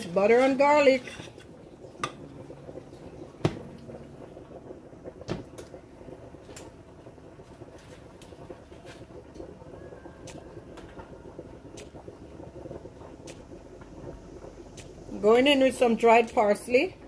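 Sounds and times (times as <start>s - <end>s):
butter simmering in a saucepan: 0.0s - 17.0s.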